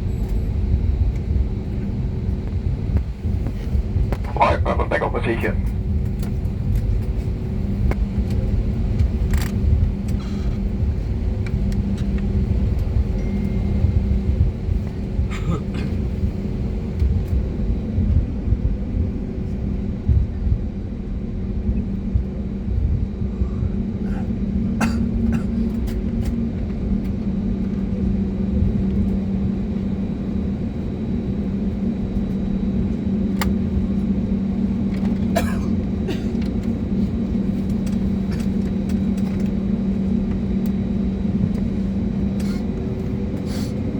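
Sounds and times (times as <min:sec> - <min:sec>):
airplane cabin engine hum: 0:00.0 - 0:43.9.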